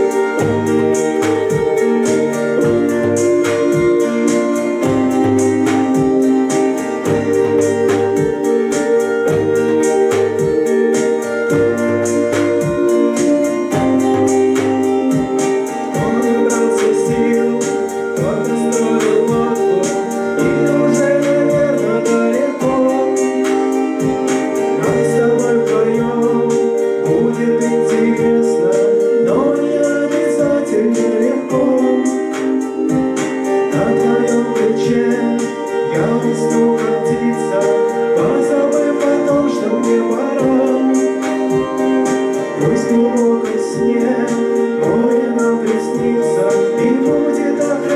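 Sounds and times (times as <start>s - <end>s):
keyboard chords: 0.0s - 47.9s
person singing: 0.0s - 47.9s
steady percussive beat: 0.0s - 47.9s.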